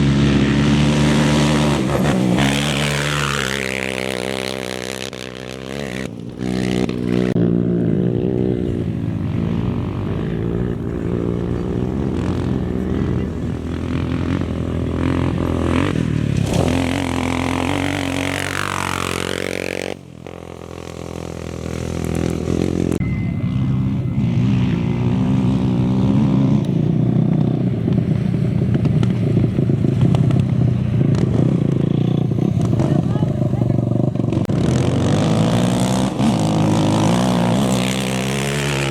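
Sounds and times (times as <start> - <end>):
off-road motorcycles revving past: 0.0 - 38.9.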